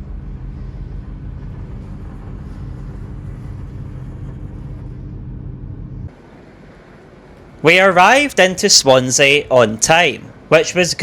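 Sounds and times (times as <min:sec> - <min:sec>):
train rumbling with deep hum: 0:00.0 - 0:11.0.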